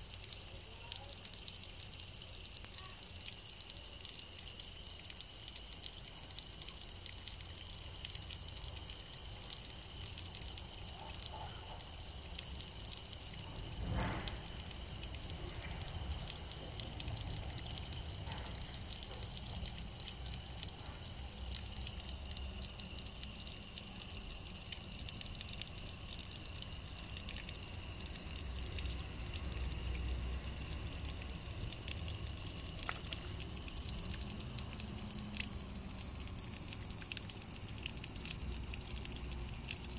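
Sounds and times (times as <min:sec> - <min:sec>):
water trickling over stone: 0:00.0 - 0:39.9.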